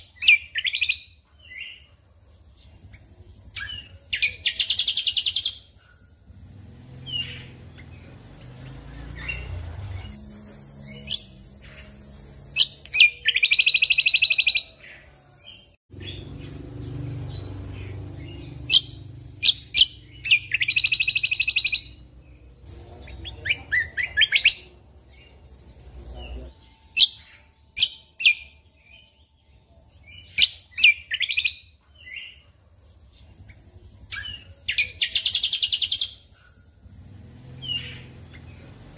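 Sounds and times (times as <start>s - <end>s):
songbird chips and buzzy trills: 0.0s - 38.9s.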